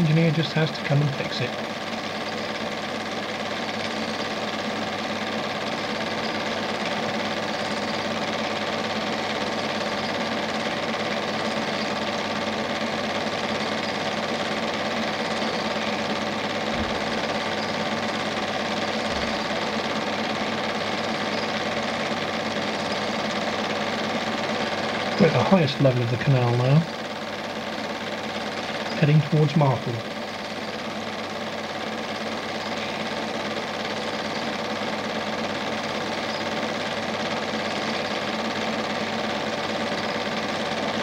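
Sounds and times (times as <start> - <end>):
film projector whirring: 0.0 - 41.0.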